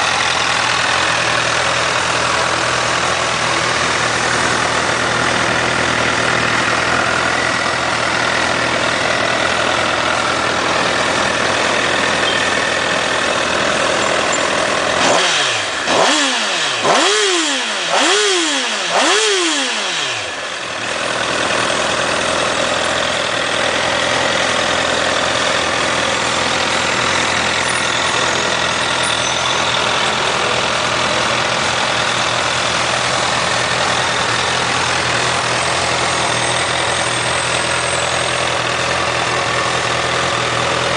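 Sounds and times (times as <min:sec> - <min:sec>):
engine throttle blips: 0:00.0 - 0:40.9
motorcycle engine idling: 0:00.0 - 0:40.9.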